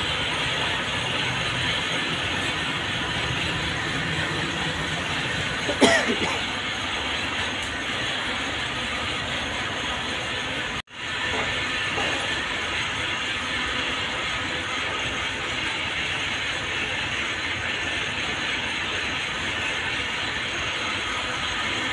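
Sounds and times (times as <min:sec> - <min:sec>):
factory machinery clattering: 0:00.0 - 0:21.9.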